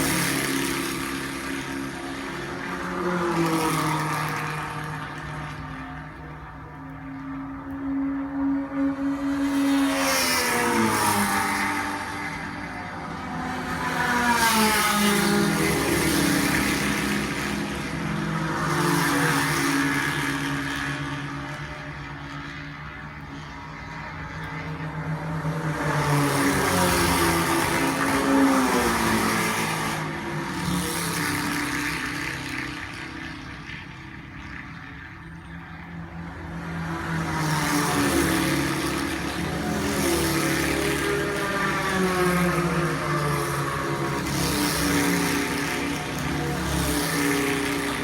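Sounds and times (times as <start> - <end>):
racing cars passing at speed: 0.0 - 48.0.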